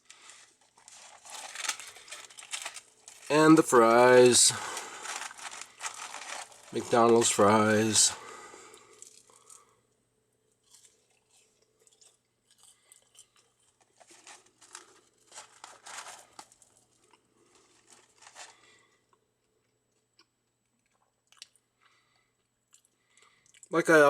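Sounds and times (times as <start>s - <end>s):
chewing fries crunching: 0.0s - 9.8s, 10.4s - 23.8s.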